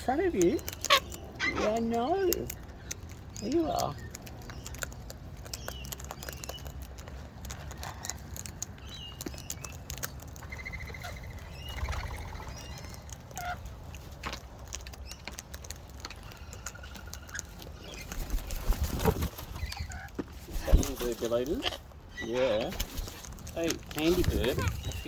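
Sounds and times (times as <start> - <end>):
parrots squeaky calls: 0.0 - 6.8, 7.6 - 14.1, 16.2 - 25.0
parrot rapid chattering: 0.0 - 25.0.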